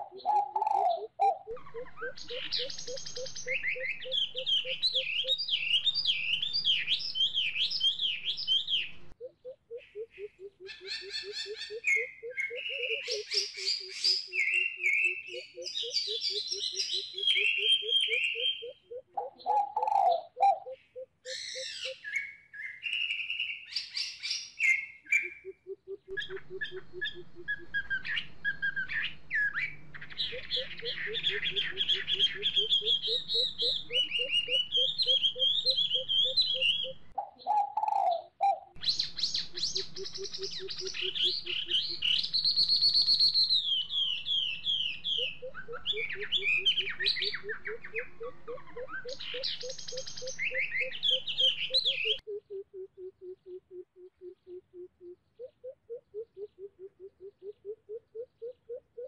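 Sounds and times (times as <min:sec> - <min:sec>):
deep hooting bird calls: 0:00.0 - 0:22.2, 0:25.0 - 0:59.0
birds chirping and trilling: 0:00.0 - 0:59.0.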